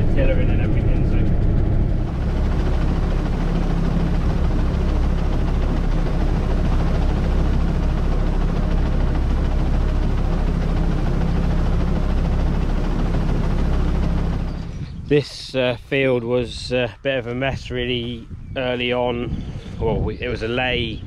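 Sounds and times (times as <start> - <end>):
tractor engine running: 0.0 - 19.1.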